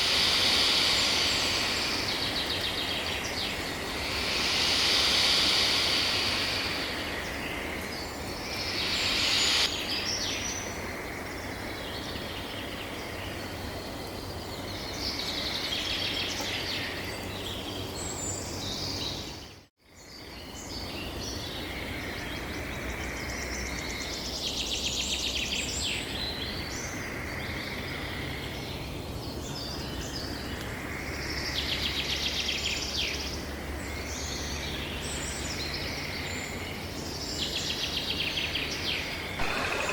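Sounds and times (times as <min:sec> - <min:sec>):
birds chirping and trilling: 0:00.0 - 0:39.9
outdoor background noise: 0:00.0 - 0:39.9.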